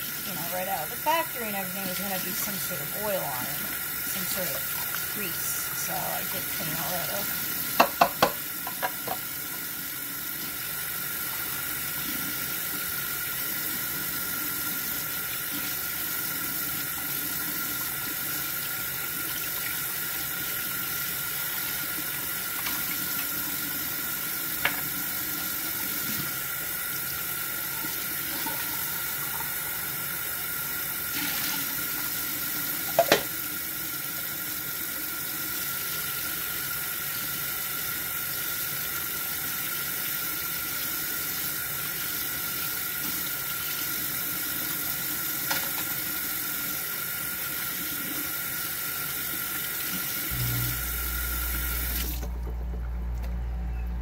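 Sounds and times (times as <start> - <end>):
faucet running into sink: 0.0 - 52.7.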